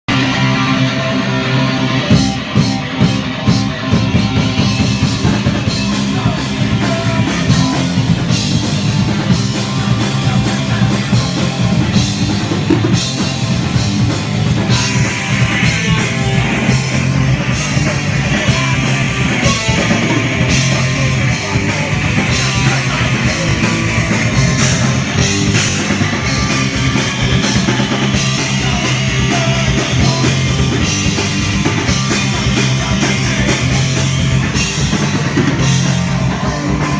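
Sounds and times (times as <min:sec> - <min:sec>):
distorted electric guitar: 0:00.1 - 0:36.9
driving drum kit: 0:00.1 - 0:36.9.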